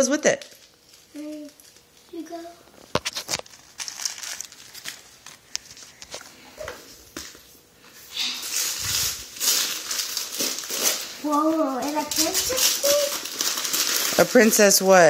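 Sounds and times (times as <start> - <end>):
wrapping paper tearing and crinkling: 0.4 - 6.5, 8.1 - 15.0.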